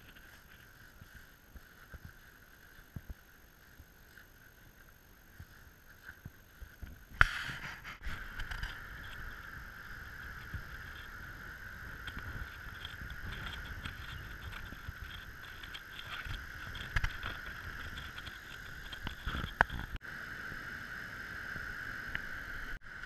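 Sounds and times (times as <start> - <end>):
steady high hum: 0.0 - 23.0.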